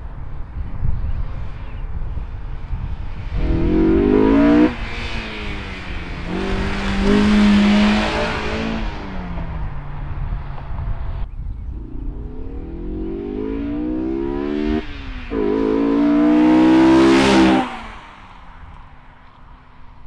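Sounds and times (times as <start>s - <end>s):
car accelerating past: 2.9s - 20.0s.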